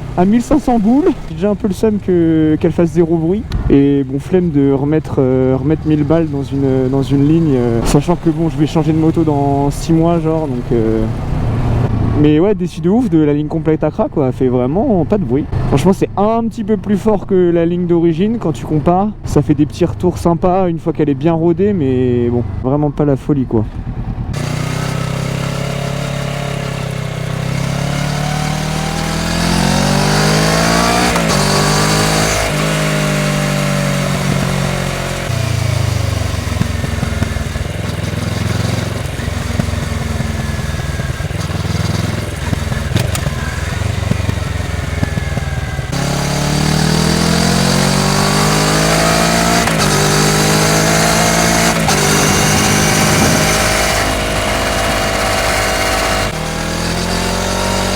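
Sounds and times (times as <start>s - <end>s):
motorcycle engine accelerating: 0.0s - 12.5s, 14.4s - 16.2s, 23.6s - 57.9s
wind and road noise: 0.0s - 57.9s.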